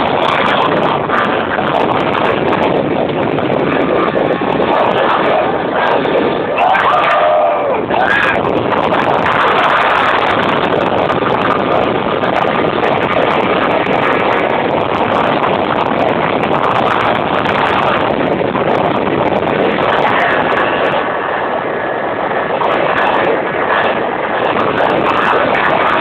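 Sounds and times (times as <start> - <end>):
motorboat engine and rushing water: 0.0 - 26.0.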